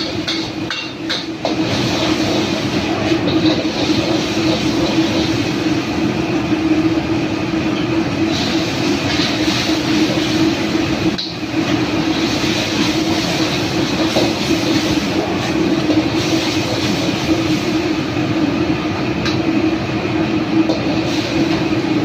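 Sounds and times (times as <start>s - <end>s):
gas burner roaring: 0.0s - 22.0s
kitchen extraction running: 0.0s - 22.0s.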